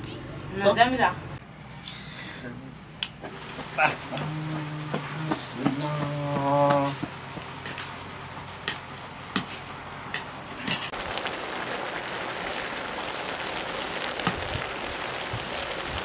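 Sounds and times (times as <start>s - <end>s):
steady hiss: 1.8s - 16.0s.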